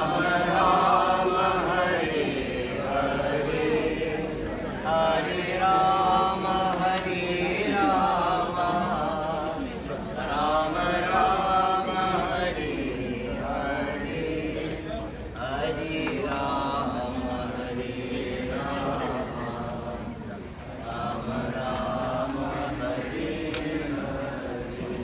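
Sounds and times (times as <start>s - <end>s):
voices chanting devotional chant: 0.0s - 25.0s.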